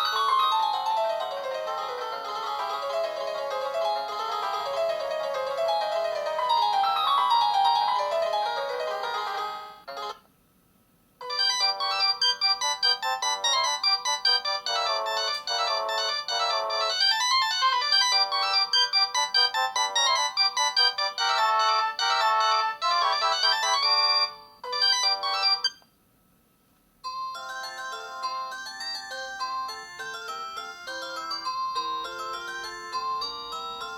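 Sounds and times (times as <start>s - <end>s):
phone ringtone melodies: 0.0s - 10.2s, 11.2s - 25.8s, 27.1s - 33.9s.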